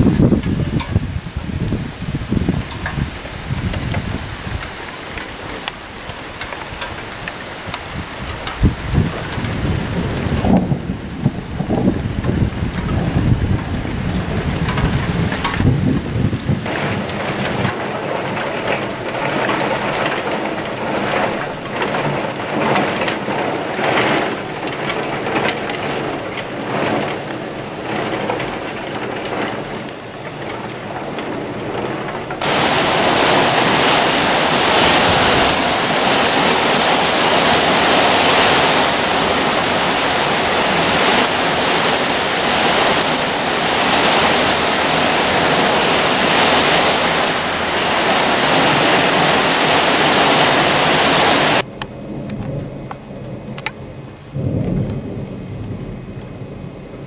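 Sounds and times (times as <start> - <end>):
heavy rain downpour: 0.0 - 57.0
thunder rumbling: 0.0 - 57.0
wind-driven rain: 0.0 - 57.0.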